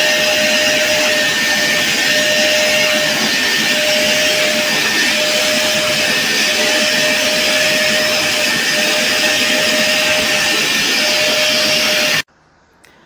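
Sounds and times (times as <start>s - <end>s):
vacuum cleaner motor running: 0.0s - 12.3s.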